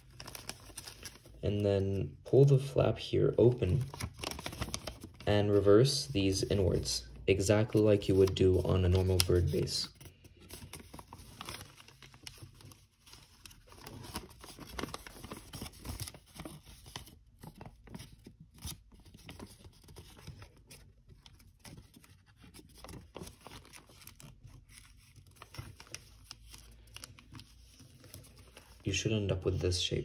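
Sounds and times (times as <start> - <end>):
paper rustling and crinkling: 0.0 - 1.4, 3.4 - 29.6.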